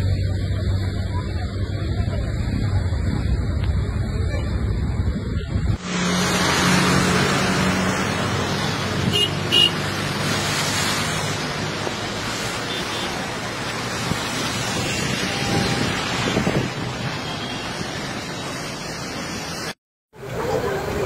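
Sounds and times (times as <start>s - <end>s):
heavy rain and floodwater rushing: 0.0s - 21.0s
road traffic: 0.0s - 21.0s.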